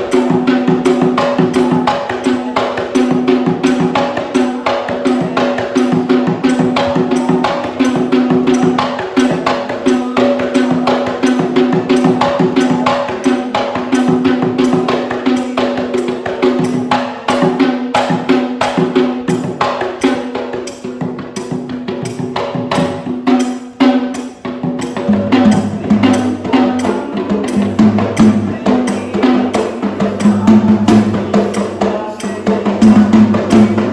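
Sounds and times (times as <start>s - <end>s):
frame drums struck rapidly: 0.0s - 33.9s.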